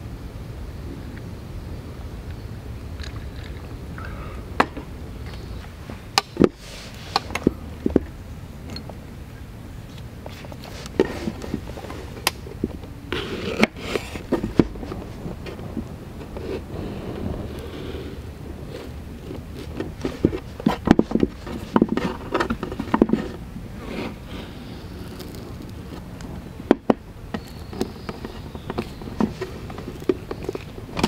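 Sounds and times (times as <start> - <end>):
low background rumble: 0.0 - 31.0.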